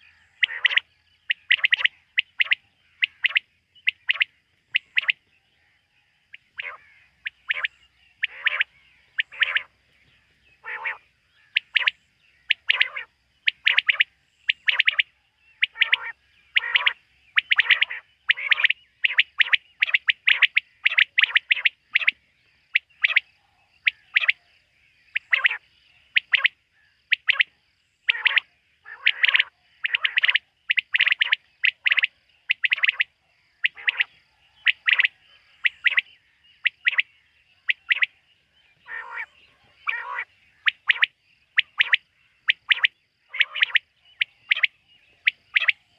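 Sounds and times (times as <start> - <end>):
quail calling: 0.0 - 5.2, 6.3 - 9.7, 10.6 - 24.4, 25.1 - 38.1, 38.8 - 45.8.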